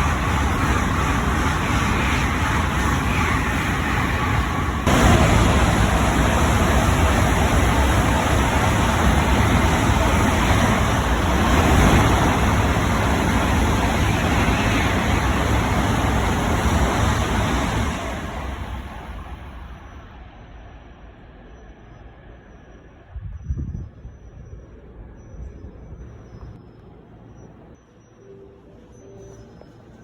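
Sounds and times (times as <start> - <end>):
train passing at speed: 0.0 - 30.0.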